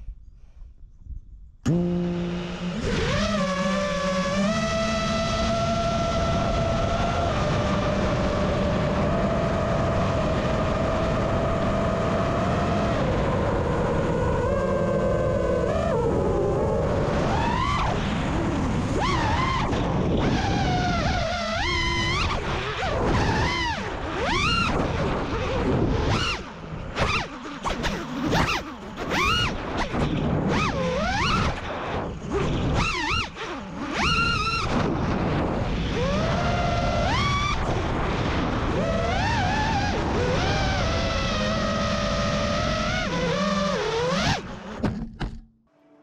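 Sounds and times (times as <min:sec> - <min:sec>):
quadcopter motors whining: 0:01.7 - 0:44.9.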